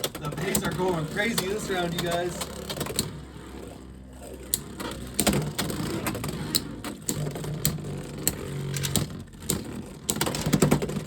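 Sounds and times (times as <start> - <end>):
spinning tops whirring: 0.0 - 10.4.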